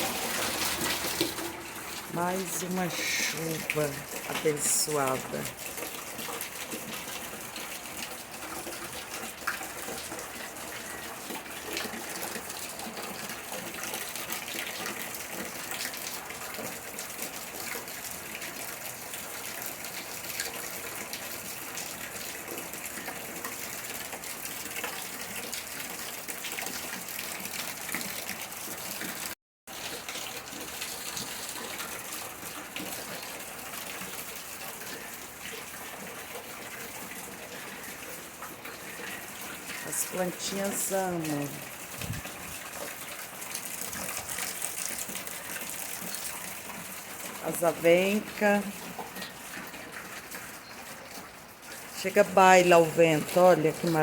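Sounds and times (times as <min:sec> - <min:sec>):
steady rain falling: 0:00.0 - 0:54.0
water running and splashing: 0:00.0 - 0:54.0.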